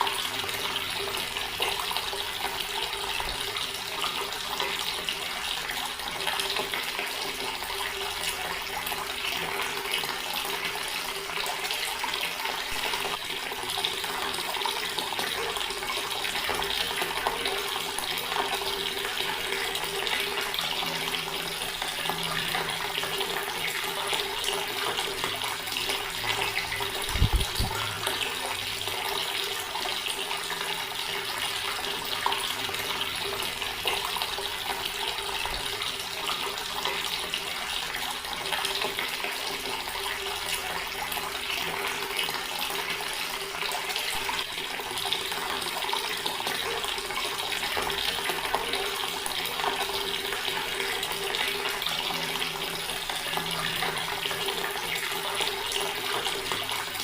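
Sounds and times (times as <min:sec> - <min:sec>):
water running from tap into basin: 0:00.0 - 0:57.0.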